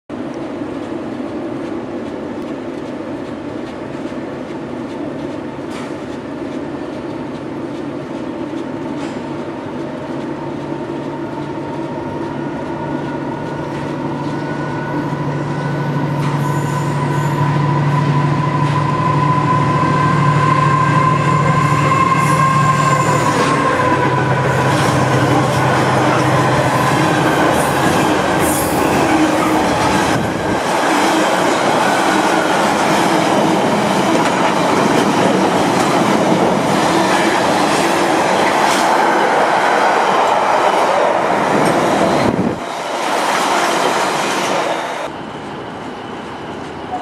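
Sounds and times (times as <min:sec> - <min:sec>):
freight train rumble: 0:00.1 - 0:47.0
train whine: 0:00.1 - 0:47.0.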